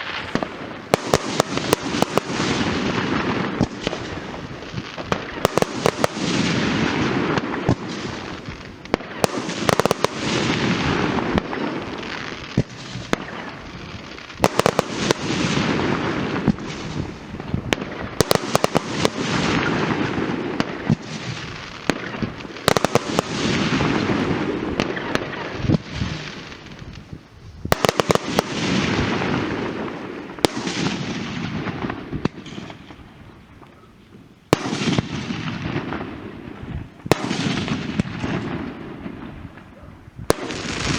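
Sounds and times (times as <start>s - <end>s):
firework bangs with crackle: 0.0s - 40.9s.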